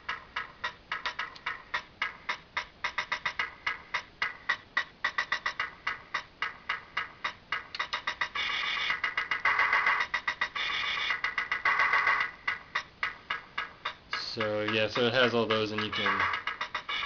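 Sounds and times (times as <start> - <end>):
tinny drum machine beat: 0.0 - 17.0.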